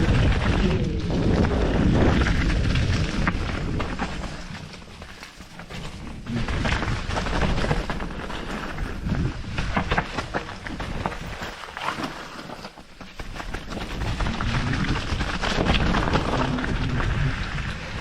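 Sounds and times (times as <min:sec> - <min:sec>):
wind rumble on microphone: 0:00.0 - 0:11.5, 0:13.1 - 0:18.0
bike rattling: 0:00.0 - 0:18.0
bike tyre noise: 0:00.0 - 0:18.0
sharp clacks over bumps: 0:00.0 - 0:18.0.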